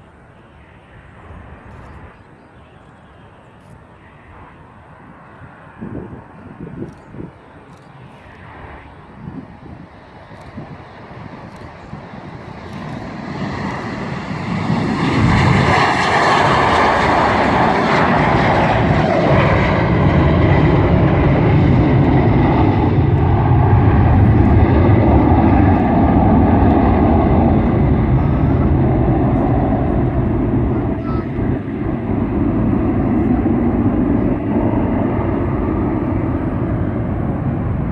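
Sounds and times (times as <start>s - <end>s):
jet engines rumbling at takeoff: 0.0s - 37.9s.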